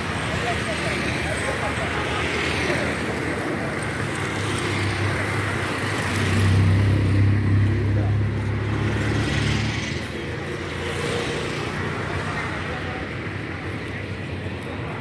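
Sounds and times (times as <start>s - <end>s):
cars and scooters passing: 0.0s - 15.0s
vehicle engine hum passing close: 0.0s - 15.0s.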